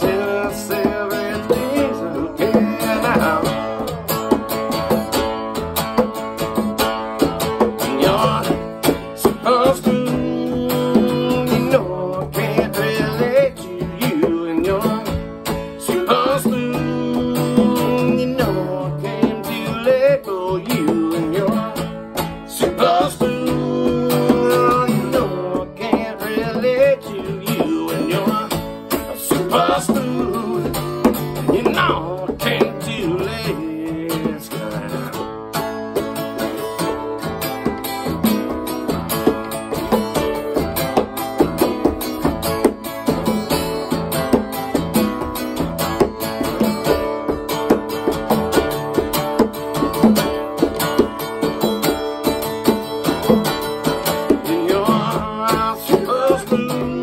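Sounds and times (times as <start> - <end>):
acoustic guitar playing: 0.0 - 57.0
hand drum tapping: 0.0 - 57.0.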